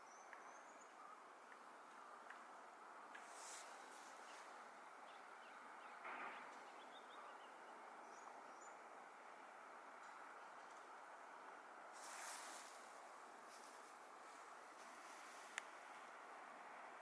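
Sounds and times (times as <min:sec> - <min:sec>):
steady quiet hiss: 0:00.0 - 0:17.0.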